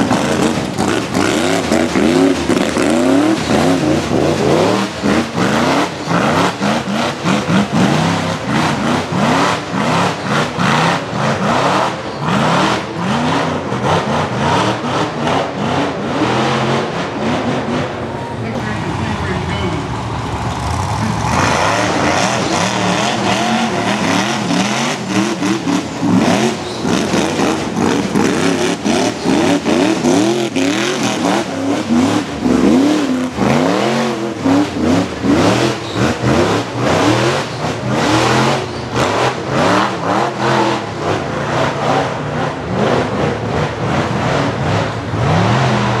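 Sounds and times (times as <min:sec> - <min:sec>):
buggy engines revving: 0:00.0 - 0:46.0.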